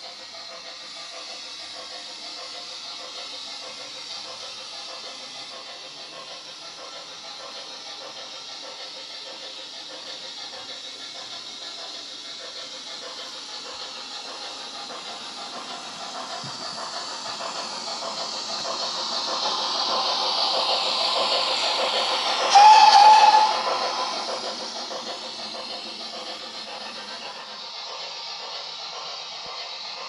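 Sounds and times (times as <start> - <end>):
model locomotive steam hiss and chuff: 0.0 - 30.0.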